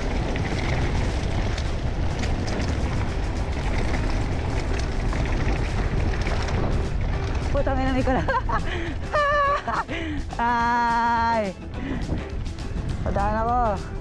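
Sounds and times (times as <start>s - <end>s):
small rattles and clicks: 0.0s - 14.0s
wind buffeting microphone: 0.0s - 14.0s.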